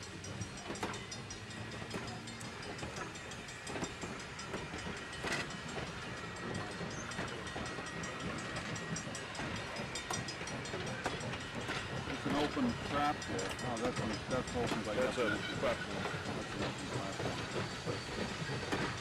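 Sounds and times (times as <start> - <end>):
steel wheels rumbling on rail: 0.0 - 19.0
wheels clicking over rail joints: 0.0 - 19.0.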